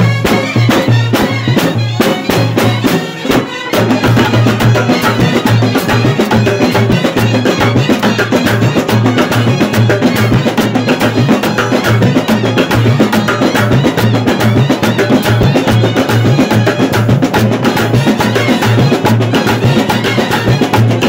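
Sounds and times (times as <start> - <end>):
marching drums beating: 0.0 - 21.0.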